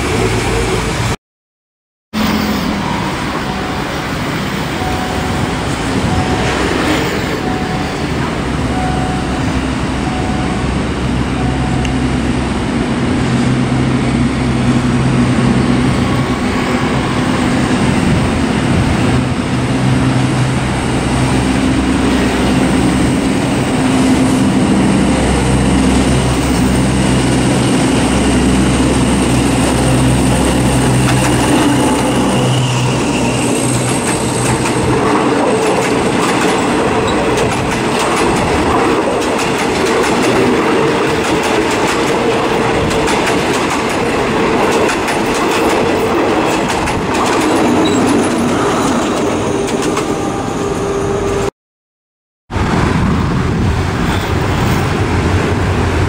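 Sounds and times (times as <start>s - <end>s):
diesel locomotive engine drone: 0.0s - 1.2s, 2.1s - 51.5s, 52.5s - 56.0s.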